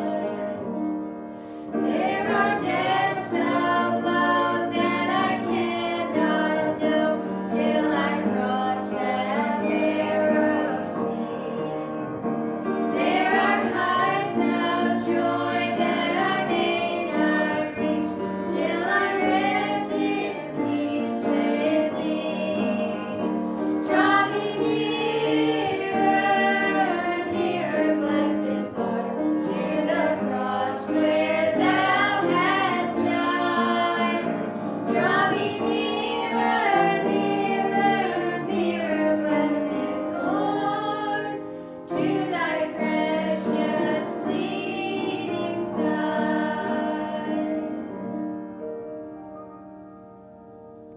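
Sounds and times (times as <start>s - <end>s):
voices singing a gospel hymn: 0.0s - 48.6s.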